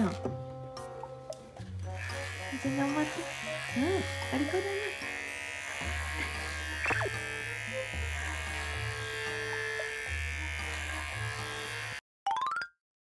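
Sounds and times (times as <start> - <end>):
electric clippers buzzing: 1.4 - 12.0.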